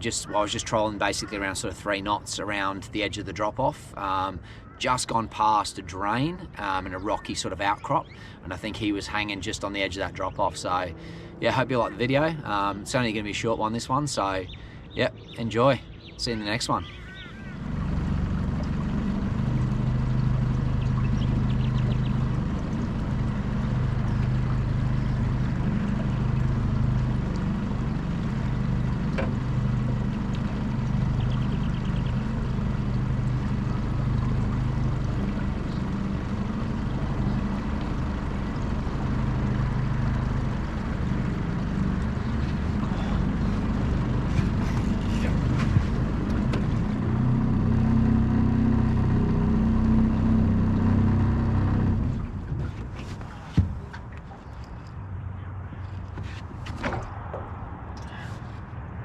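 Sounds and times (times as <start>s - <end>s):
small boat motor running: 0.0s - 55.0s
water noise: 0.0s - 55.2s.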